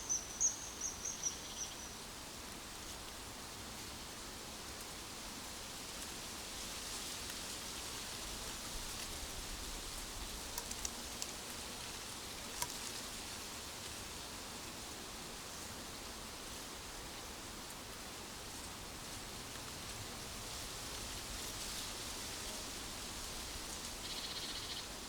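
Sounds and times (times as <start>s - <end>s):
hiss of leaves in wind: 0.0s - 25.0s.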